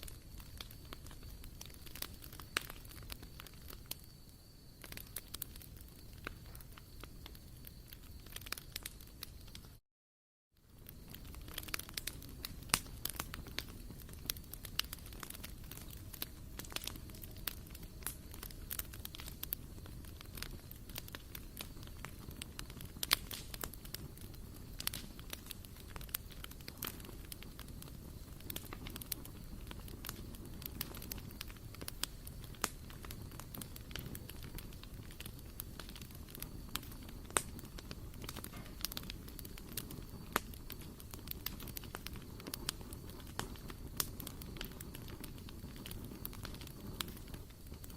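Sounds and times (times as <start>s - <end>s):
wood fire crackling and popping: 0.0s - 9.8s, 10.6s - 47.9s.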